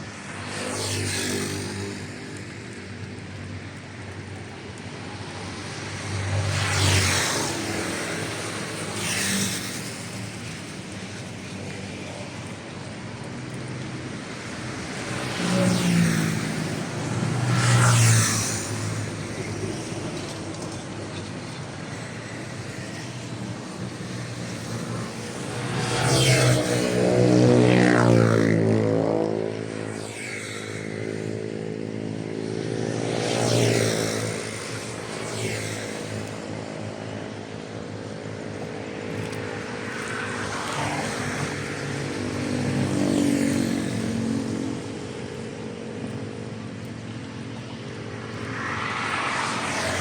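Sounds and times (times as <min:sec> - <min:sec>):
background traffic: 0:00.0 - 0:50.0
vehicles passing close by: 0:00.0 - 0:50.0.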